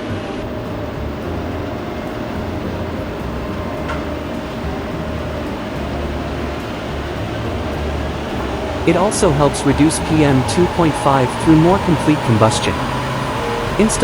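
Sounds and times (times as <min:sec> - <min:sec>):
diesel pickup engine running: 0:00.0 - 0:14.0.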